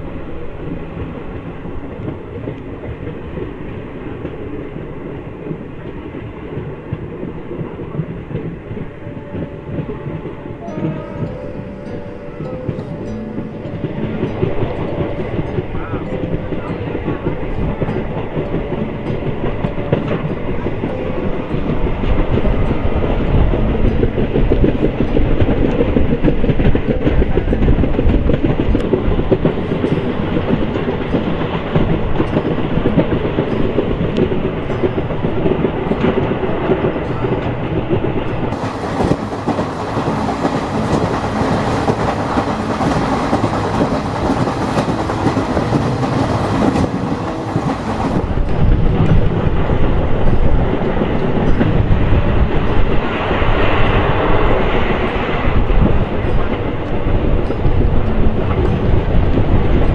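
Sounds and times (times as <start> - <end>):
train rumbling: 0.0 - 59.9
wheels clattering over rails: 0.0 - 59.9.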